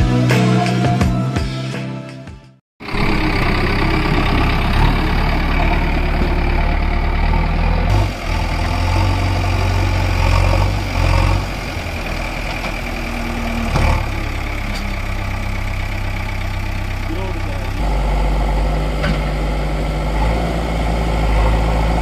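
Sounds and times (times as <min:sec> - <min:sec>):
heavy diesel engine idling: 0:02.8 - 0:22.0.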